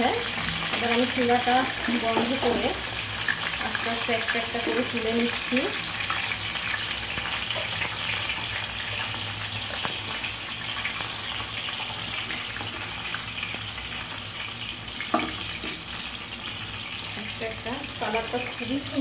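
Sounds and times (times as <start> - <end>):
oil sizzling in a frying pan: 0.0 - 19.0.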